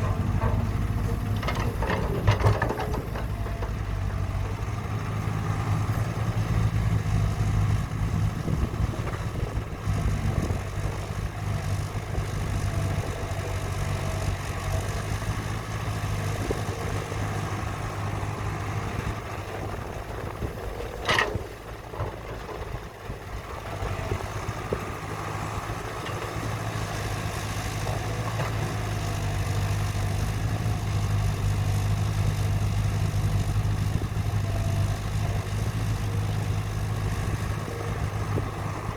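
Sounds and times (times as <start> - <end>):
heavy machinery engine humming: 0.0 - 38.9.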